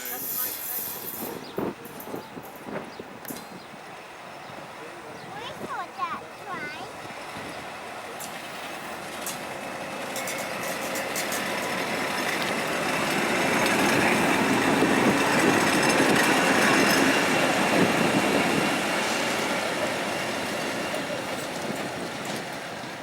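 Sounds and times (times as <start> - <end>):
diesel locomotive engine: 0.0 - 23.0.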